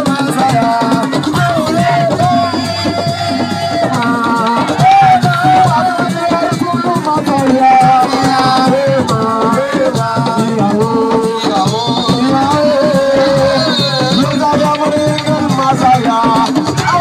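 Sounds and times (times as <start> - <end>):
drums and shakers: 0.0 - 17.0
person singing: 0.0 - 17.0.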